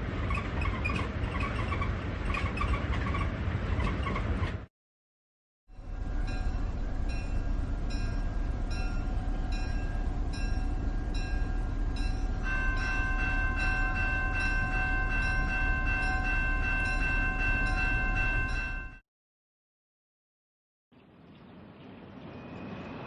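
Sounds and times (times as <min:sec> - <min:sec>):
train rumbling on rails: 0:00.0 - 0:04.7, 0:05.7 - 0:19.0, 0:21.5 - 0:23.0.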